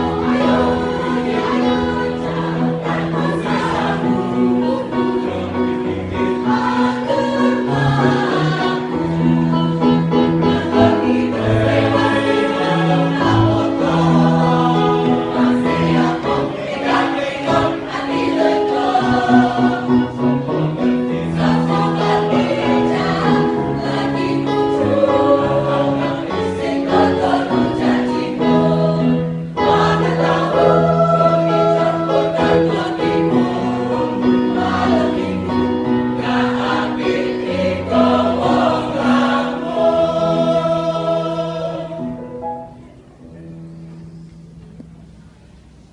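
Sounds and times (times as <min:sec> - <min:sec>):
mixed choir singing: 0:00.0 - 0:42.3.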